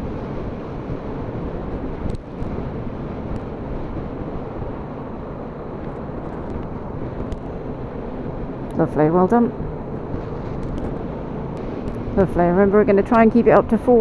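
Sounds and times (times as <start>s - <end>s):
motorcycle engine: 0.0s - 12.6s
wind rushing on microphone: 0.0s - 14.0s.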